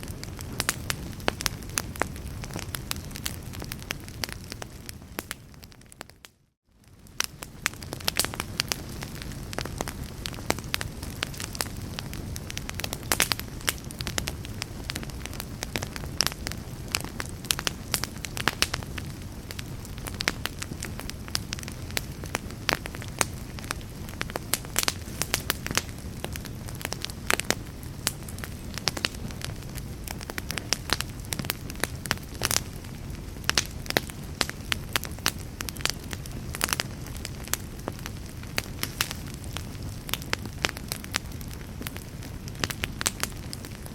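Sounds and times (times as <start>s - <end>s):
fire crackles and pops: 0.0s - 43.9s
logs burning in fireplace: 0.0s - 43.9s.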